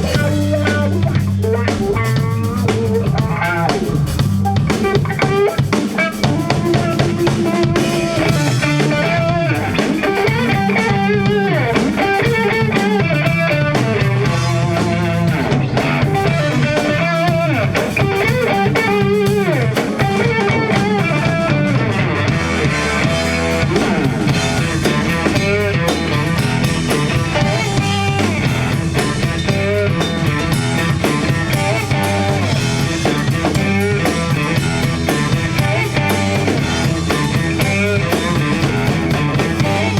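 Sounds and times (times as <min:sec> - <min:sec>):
instrumental rock band: 0:00.0 - 0:39.9
lead guitar with bends: 0:00.0 - 0:39.9.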